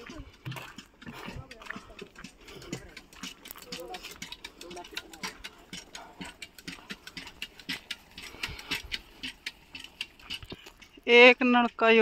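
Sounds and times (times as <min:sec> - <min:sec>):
footsteps on gravel: 0:00.0 - 0:12.0.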